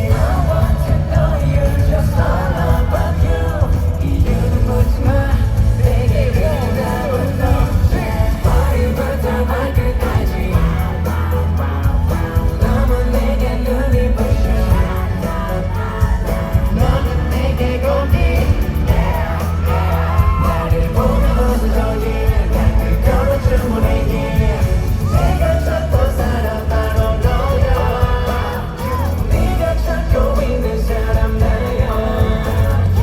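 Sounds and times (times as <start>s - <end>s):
backing track with heavy bass beat: 0.0s - 33.0s
fans yelling: 0.0s - 33.0s
two men singing: 0.0s - 33.0s.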